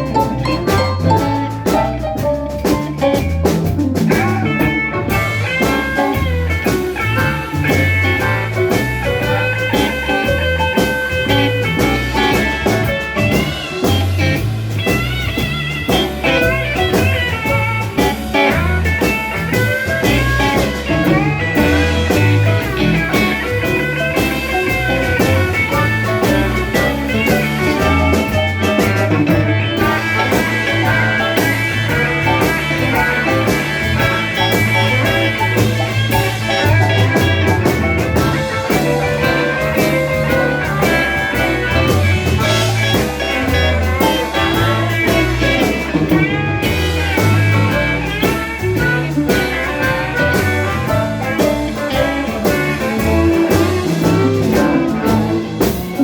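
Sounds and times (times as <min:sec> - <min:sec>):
bass and drum groove: 0:00.0 - 0:56.0
lead guitar solo: 0:00.0 - 0:56.0.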